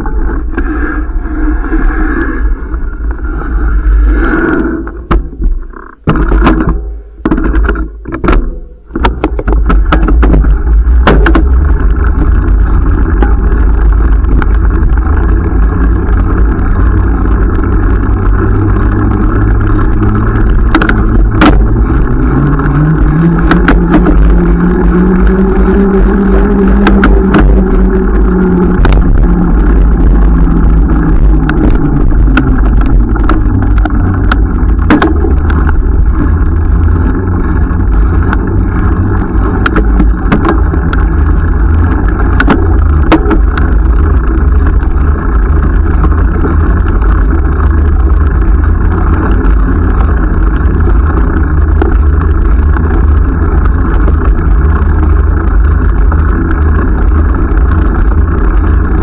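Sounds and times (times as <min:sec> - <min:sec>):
wind and road noise rumble: 0:00.0 - 0:59.0
sharp clicks and ticks: 0:09.0 - 0:59.0.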